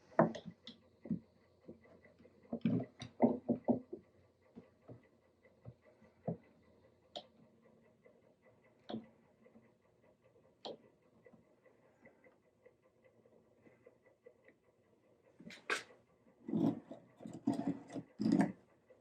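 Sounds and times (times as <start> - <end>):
faint steady ticking: 0.0 - 19.0.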